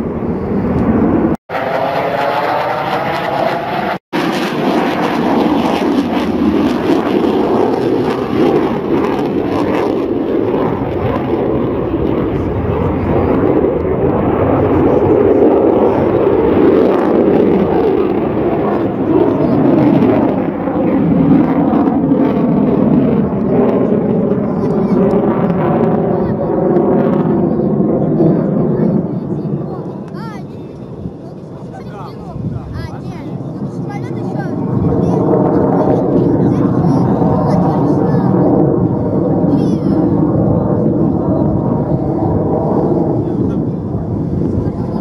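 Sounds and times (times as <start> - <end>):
fighter jet rushing rumble: 0.0 - 45.0.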